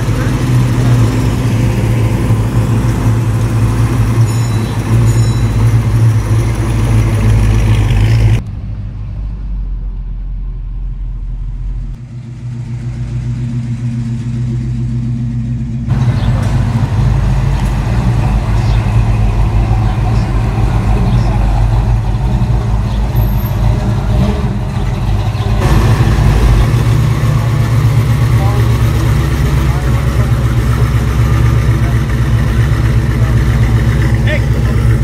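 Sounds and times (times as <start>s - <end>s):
muscle car engines rumbling: 0.0s - 35.0s.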